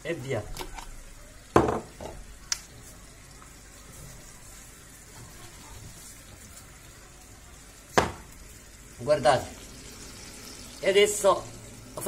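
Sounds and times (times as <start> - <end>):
pan simmering hiss and bubble: 0.0 - 12.0.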